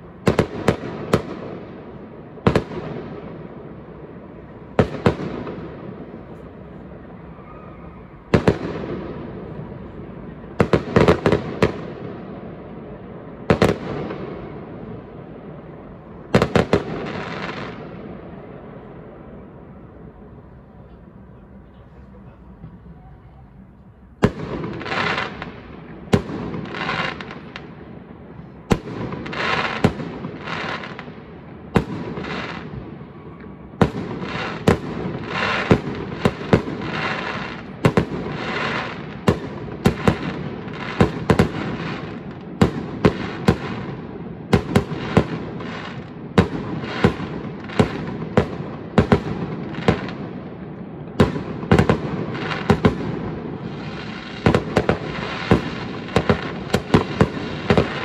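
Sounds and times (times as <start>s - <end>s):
fireworks bursting with sharp bangs: 0.0s - 21.3s, 23.8s - 58.0s
noisy hiss: 0.0s - 58.0s.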